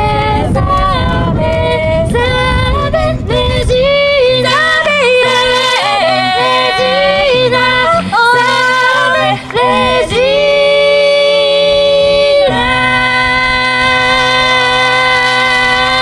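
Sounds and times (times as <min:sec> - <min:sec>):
a cappella group singing: 0:00.0 - 0:16.0.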